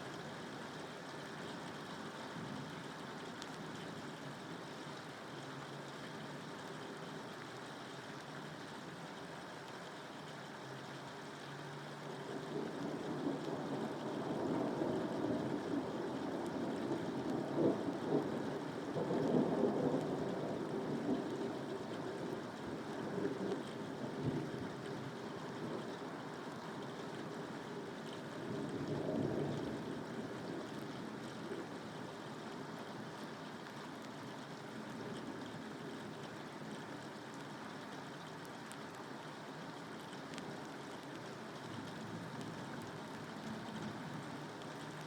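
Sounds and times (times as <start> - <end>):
steady rain: 0.0 - 45.0.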